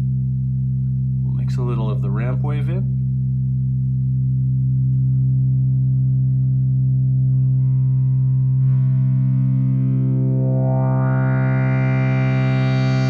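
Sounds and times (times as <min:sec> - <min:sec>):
synthesizer drone: 0:00.0 - 0:13.0.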